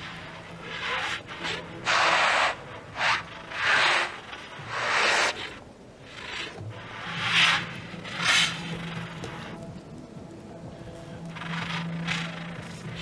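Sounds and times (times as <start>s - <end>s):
breathy hissing air swells: 0.0s - 13.0s.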